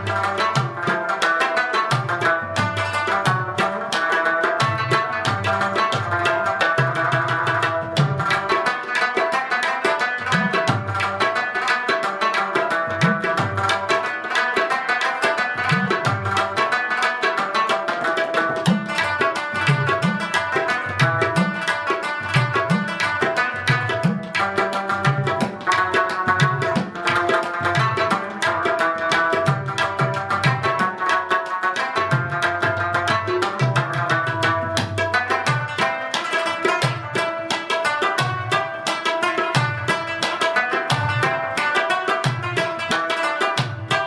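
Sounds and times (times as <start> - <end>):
plucked string instrument: 0.0 - 44.0.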